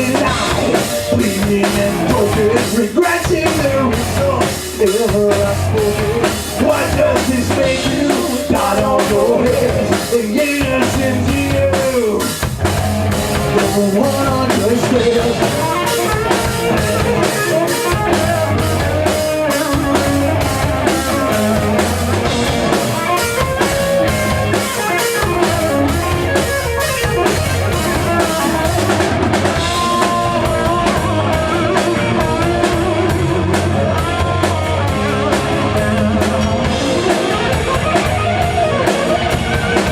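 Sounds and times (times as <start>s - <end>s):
drum kit fast beat: 0.0s - 39.9s
electric guitar: 0.0s - 39.9s.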